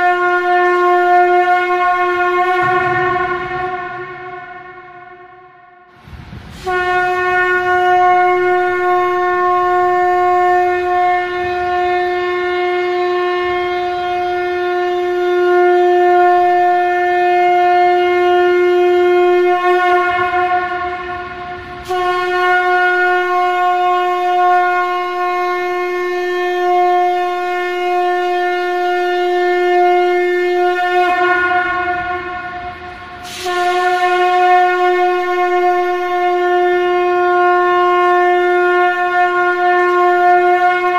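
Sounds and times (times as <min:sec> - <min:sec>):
conch shell trumpet blasts: 0:00.0 - 0:40.9.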